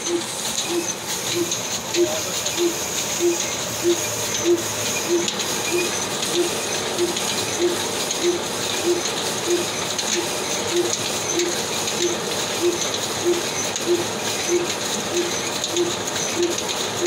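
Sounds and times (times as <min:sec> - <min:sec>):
belt-driven machine whirring hiss: 0:00.0 - 0:17.0
diesel engine running slowly: 0:00.0 - 0:17.0.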